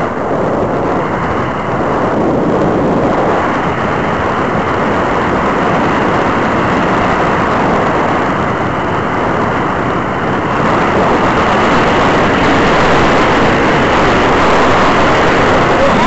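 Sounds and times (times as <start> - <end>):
airflow rushing over microphone: 0.0 - 16.0.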